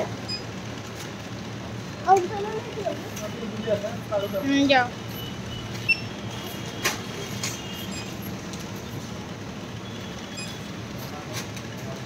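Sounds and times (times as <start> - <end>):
supermarket background hum: 0.0 - 12.0.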